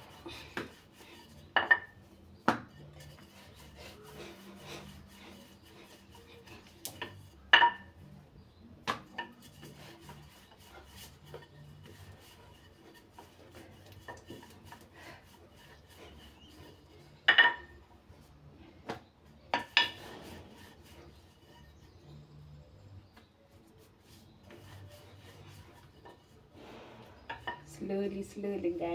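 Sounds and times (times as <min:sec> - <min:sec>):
rolling pin rubbing on dough: 0:00.0 - 0:28.9.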